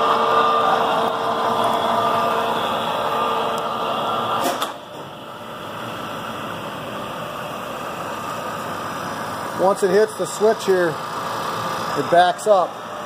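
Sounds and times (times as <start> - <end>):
drill press whine: 0.0 - 13.0.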